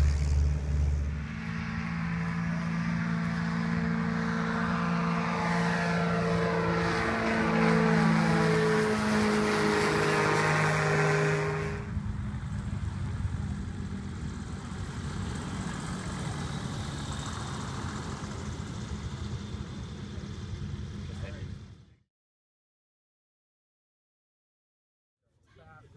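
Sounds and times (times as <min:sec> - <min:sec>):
distant engine hum: 0:00.0 - 0:22.0
propeller aircraft engine droning: 0:00.0 - 0:22.0.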